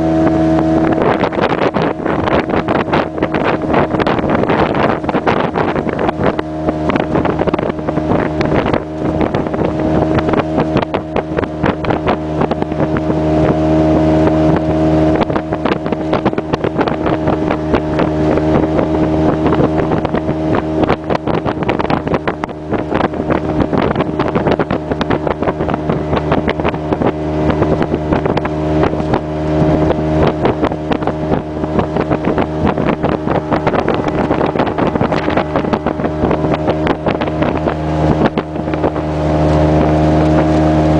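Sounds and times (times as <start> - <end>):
boat slapping on water: 0.0 - 40.9
outboard motor running: 0.0 - 40.9
wind on microphone: 0.0 - 40.9.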